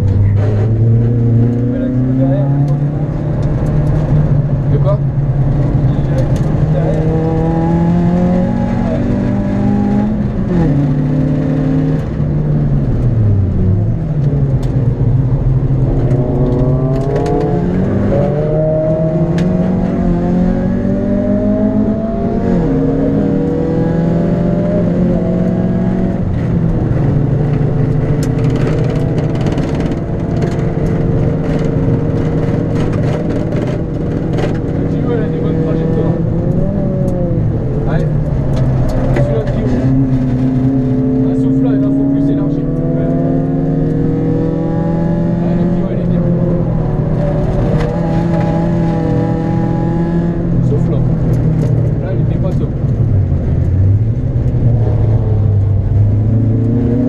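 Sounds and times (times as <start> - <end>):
car engine revving in cabin: 0.0 - 57.0
tyre and road noise: 0.0 - 57.0.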